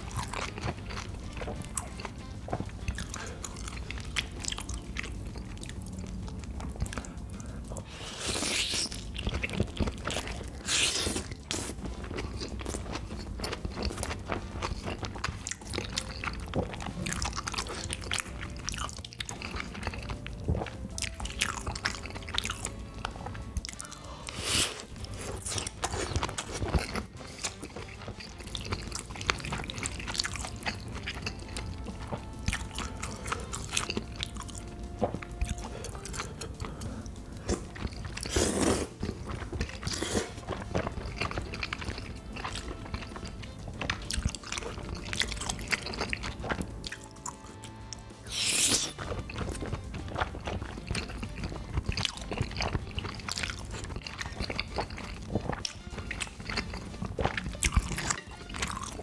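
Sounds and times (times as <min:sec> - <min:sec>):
person chewing soft food: 0:00.0 - 0:59.0.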